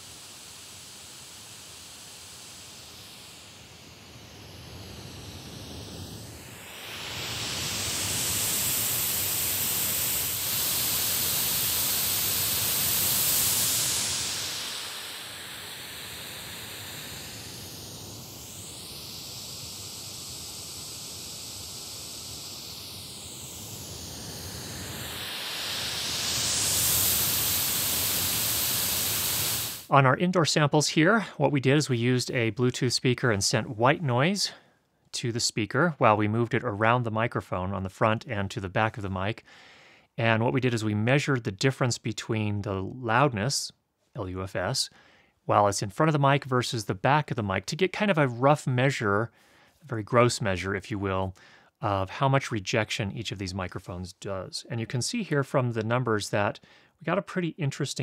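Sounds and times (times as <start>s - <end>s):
white noise from speaker: 0.0s - 34.6s, 40.2s - 58.0s.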